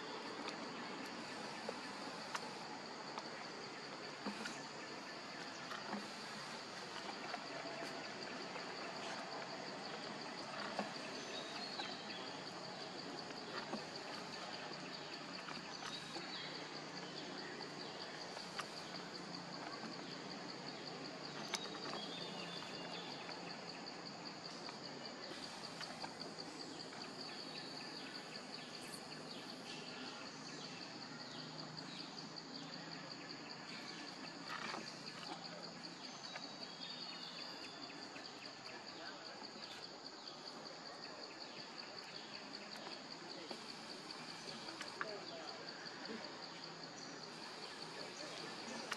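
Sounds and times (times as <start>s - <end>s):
background hiss: 0.0s - 48.9s.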